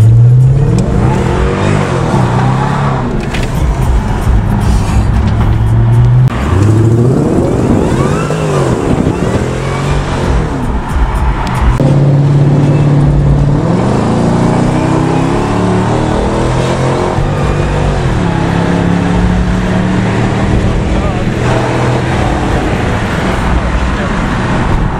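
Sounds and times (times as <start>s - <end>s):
car engine revving while driving: 0.0s - 24.9s.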